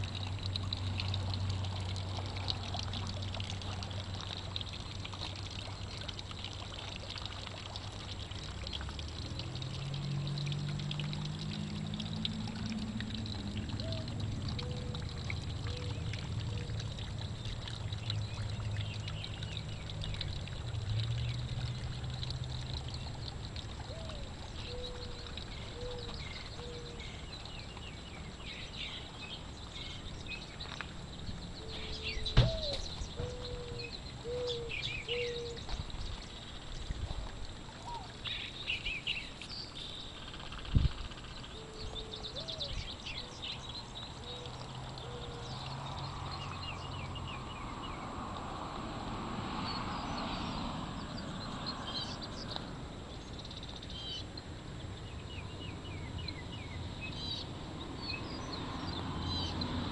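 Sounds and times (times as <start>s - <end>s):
fountain water trickling: 0.0s - 59.9s
low engine hum: 0.0s - 59.9s.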